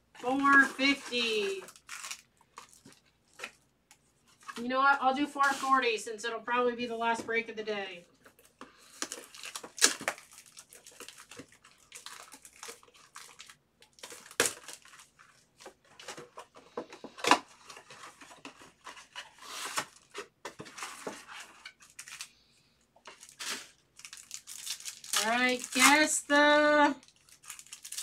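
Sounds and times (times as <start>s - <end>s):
foil packs handled: 0.2s - 3.6s, 8.3s - 22.3s, 23.0s - 28.0s.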